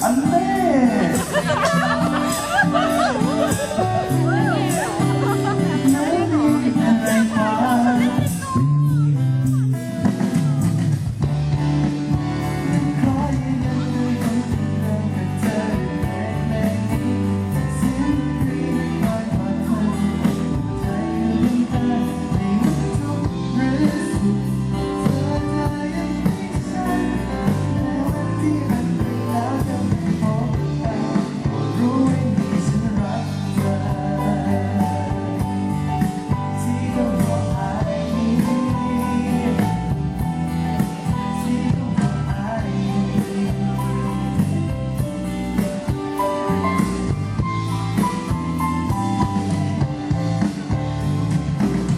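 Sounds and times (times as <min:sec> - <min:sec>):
person singing: 0:00.0 - 0:45.1
bass: 0:00.0 - 0:51.9
drums: 0:00.0 - 0:51.9
electric guitar: 0:00.0 - 0:51.9.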